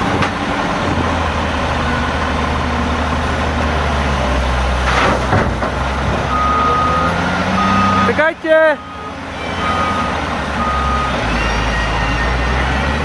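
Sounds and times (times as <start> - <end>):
diesel engines under load: 0.0 - 13.0.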